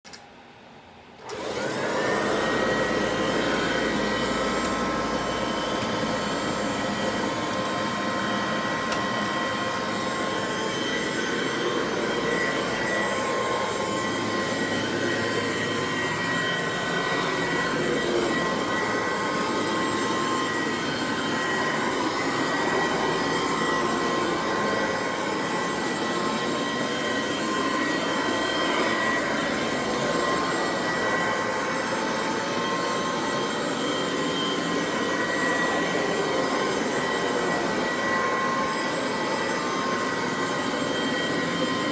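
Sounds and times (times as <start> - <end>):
vacuum cleaner motor whine: 0.5 - 41.9.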